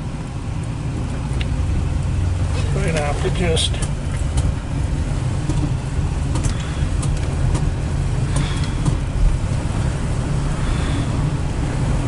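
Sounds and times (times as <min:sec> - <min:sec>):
car engine rumble in cabin: 0:00.0 - 0:12.0
road and traffic noise: 0:00.0 - 0:12.0.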